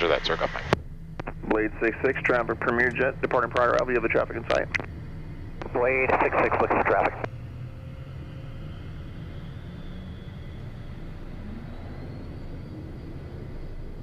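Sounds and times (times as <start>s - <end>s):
jet engines rumbling in cockpit: 0.0s - 14.0s.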